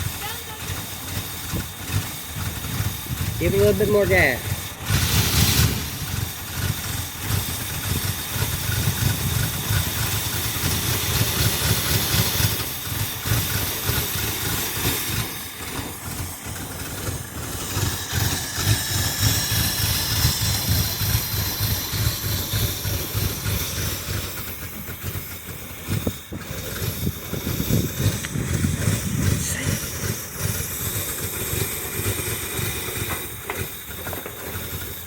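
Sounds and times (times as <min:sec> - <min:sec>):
car engine running unevenly: 0:00.0 - 0:35.0.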